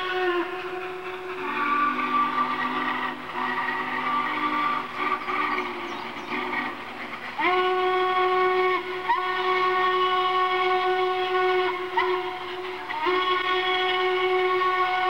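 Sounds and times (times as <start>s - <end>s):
steam locomotive whistle blowing: 0.0s - 15.0s
train rumbling: 0.0s - 15.0s.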